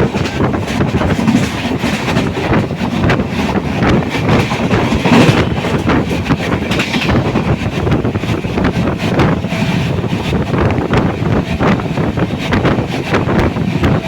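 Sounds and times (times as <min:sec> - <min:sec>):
train rushing past: 0:00.0 - 0:14.0
train wheels clattering over rail joints: 0:00.0 - 0:14.0.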